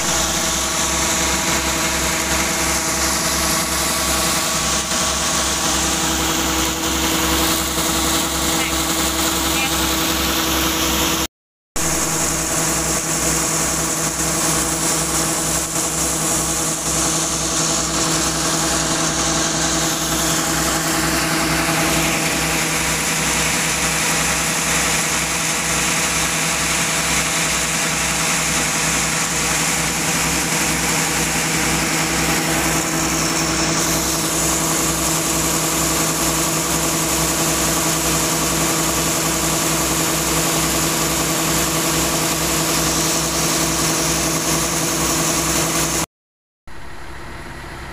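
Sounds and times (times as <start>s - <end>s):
harvester engine running: 0.0s - 46.0s.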